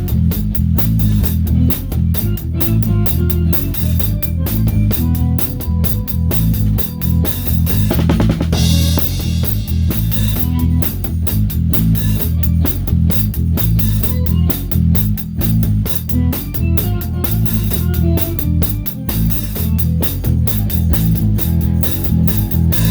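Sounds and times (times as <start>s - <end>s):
drum kit beat: 0.0s - 22.9s
rock band playing: 0.0s - 22.9s.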